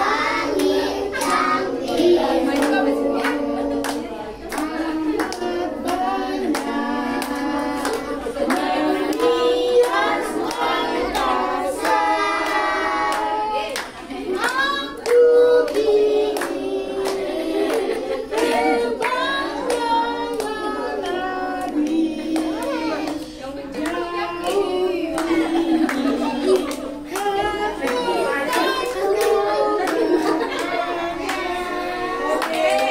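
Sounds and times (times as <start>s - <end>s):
children singing: 0.0s - 32.9s
hands clapping: 2.0s - 20.6s, 21.6s - 31.5s, 32.3s - 32.9s.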